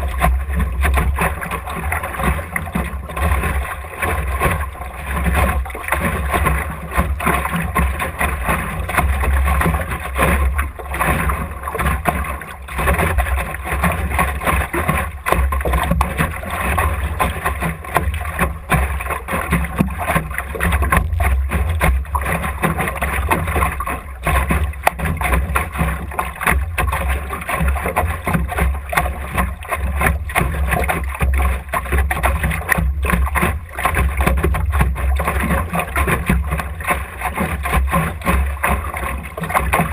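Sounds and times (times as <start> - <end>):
water splashing against hull: 0.0 - 39.9.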